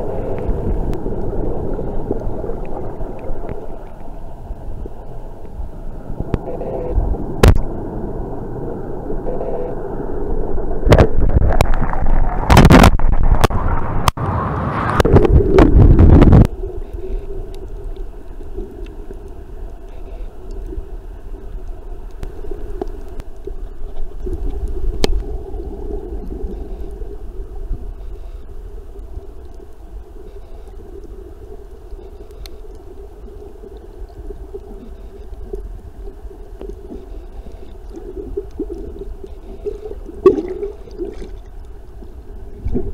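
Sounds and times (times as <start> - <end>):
steady underwater rumble: 0.0 - 42.9
underwater rushing and bubbling: 0.0 - 42.9.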